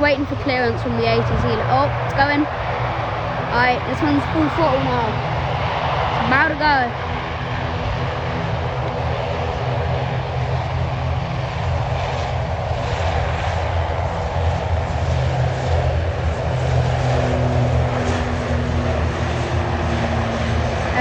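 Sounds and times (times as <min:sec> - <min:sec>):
turboprop engines drone: 0:00.0 - 0:21.0.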